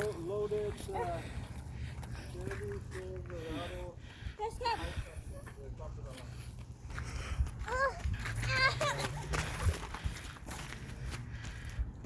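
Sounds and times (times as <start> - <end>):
footsteps and scuffs: 0.0 - 3.7, 5.3 - 12.0.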